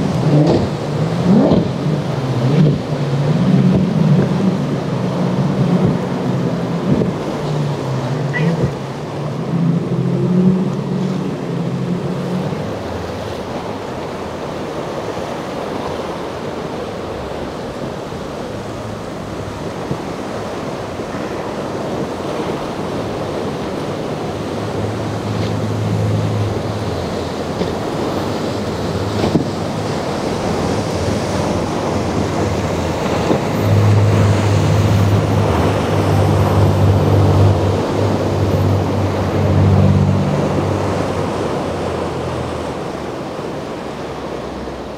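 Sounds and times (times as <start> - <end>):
boat engine hum: 0.0 - 44.9
waves washing: 0.0 - 44.9
wind on microphone: 0.0 - 44.9.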